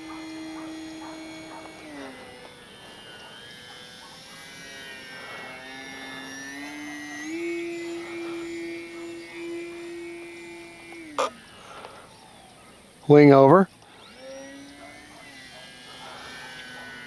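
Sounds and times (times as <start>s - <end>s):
electric model plane motor whine: 0.0s - 17.0s.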